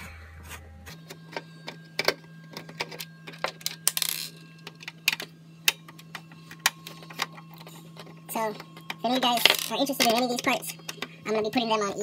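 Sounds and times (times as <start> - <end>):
low hum: 0.0 - 12.0
computer parts clicking and clattering: 1.0 - 11.2.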